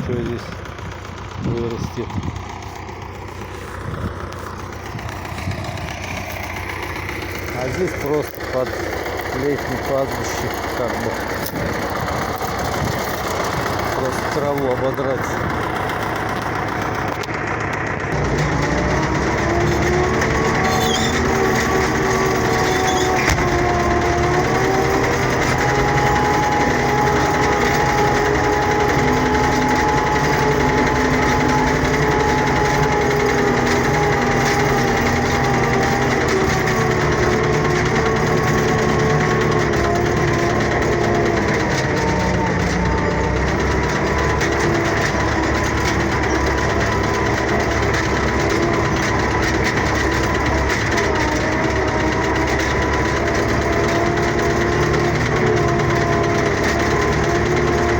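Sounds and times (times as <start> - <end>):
tractor engine running under load: 0.0 - 57.9.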